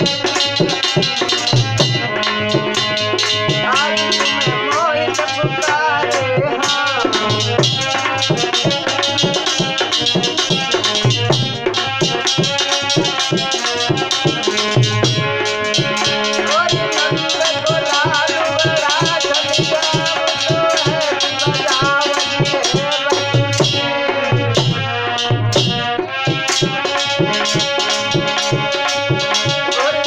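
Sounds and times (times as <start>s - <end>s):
fast hand-drum rhythm: 0.0s - 30.0s
held accompanying notes: 0.0s - 30.0s.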